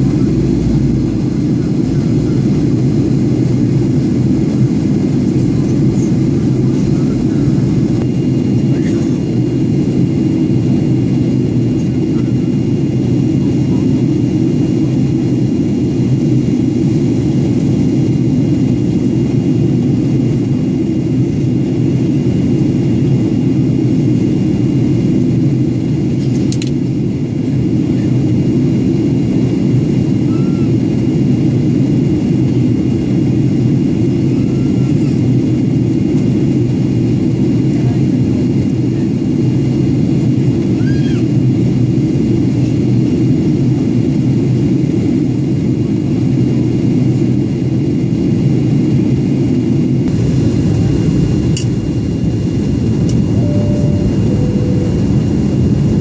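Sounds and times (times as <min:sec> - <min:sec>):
airplane cabin engine roar: 0:00.0 - 0:56.0.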